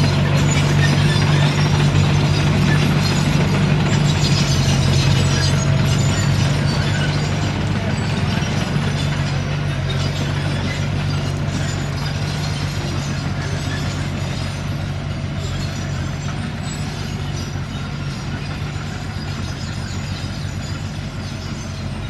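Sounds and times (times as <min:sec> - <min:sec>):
bulldozer diesel engine running: 0:00.0 - 0:22.0
steel tracks clattering: 0:00.0 - 0:22.0.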